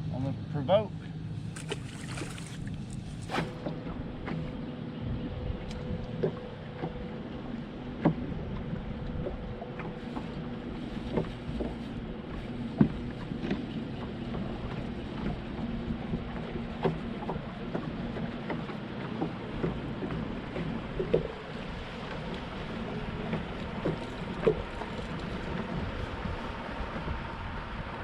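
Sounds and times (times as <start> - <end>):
low electric motor hum: 1.2 - 28.0.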